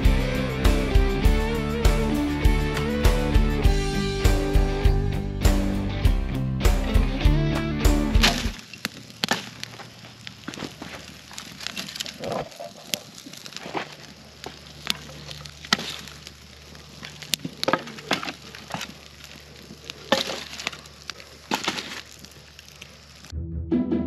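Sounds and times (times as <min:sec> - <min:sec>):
campfire crackling and popping: 0:00.0 - 0:23.3.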